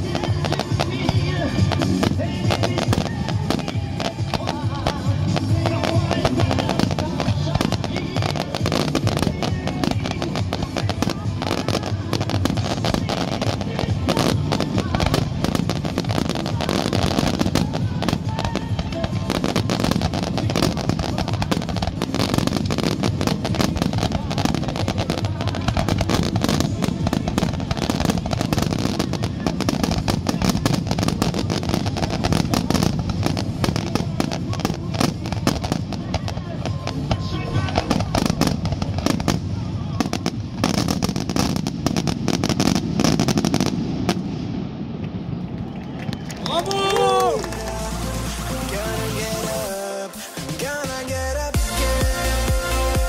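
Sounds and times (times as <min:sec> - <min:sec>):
music playing: 0:00.0 - 0:41.7, 0:46.3 - 0:53.0
fireworks bangs and crackles: 0:00.0 - 0:53.0.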